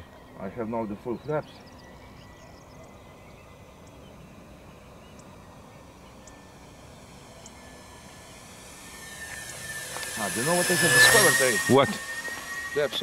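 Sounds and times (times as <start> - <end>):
bird chirping: 0.0 - 13.0
model plane propellers droning: 0.0 - 13.0.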